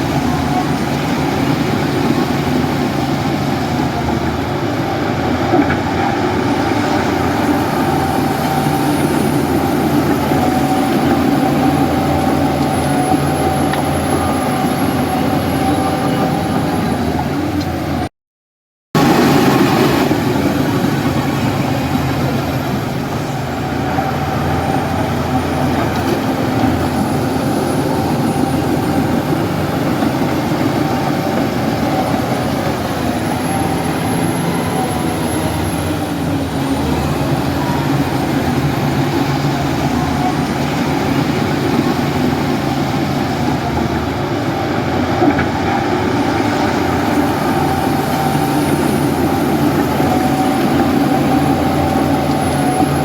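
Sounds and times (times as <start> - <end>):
bulldozer diesel engine running: 0.0 - 18.1, 19.0 - 53.0.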